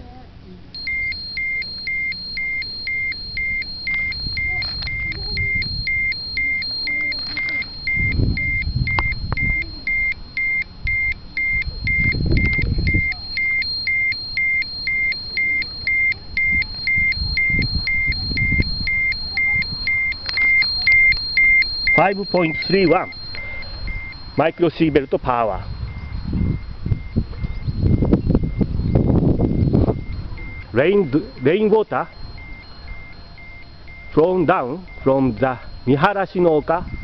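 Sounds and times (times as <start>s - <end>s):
low rumbles: 0.7s - 37.0s
short high alarm beeps: 0.7s - 37.0s.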